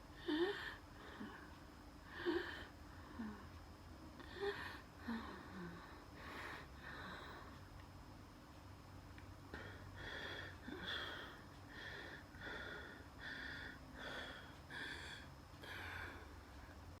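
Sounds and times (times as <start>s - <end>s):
laboured wheezing breathing: 0.1s - 7.7s, 9.5s - 16.9s.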